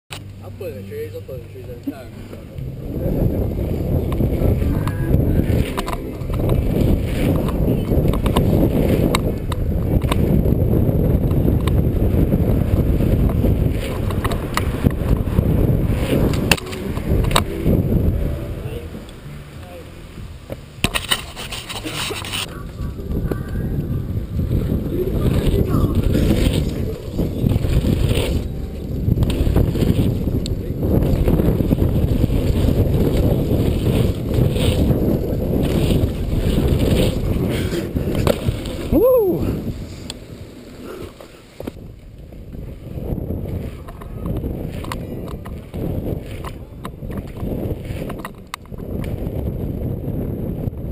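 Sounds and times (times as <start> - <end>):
bike tyre and wind rumble: 0.1 - 50.9
bike clicking and rattling: 2.3 - 19.8, 20.4 - 39.0, 39.8 - 50.9.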